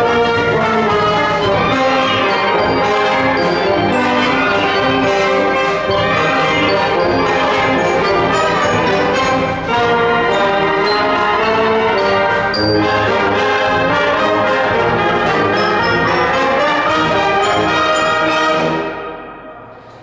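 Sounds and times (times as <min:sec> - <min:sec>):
concert band playing a march: 0:00.0 - 0:19.2.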